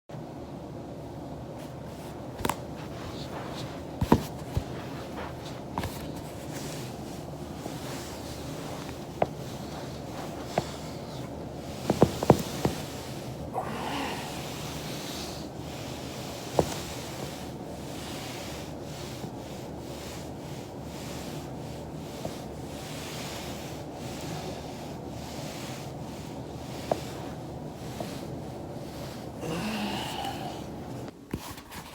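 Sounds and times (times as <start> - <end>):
low room hum: 0.1 - 31.9
foam roller scraping under body: 1.6 - 31.1.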